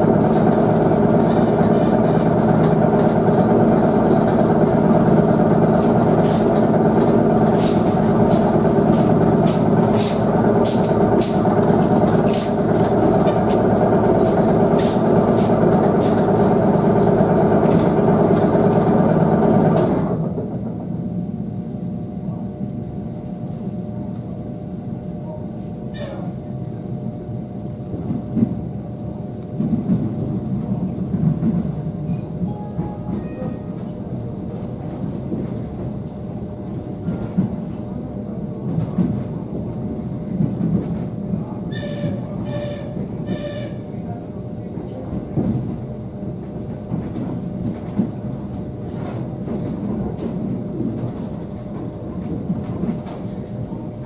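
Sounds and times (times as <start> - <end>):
electric train motor rumble and hum: 0.0 - 54.0
train wheel rumble: 0.0 - 54.0.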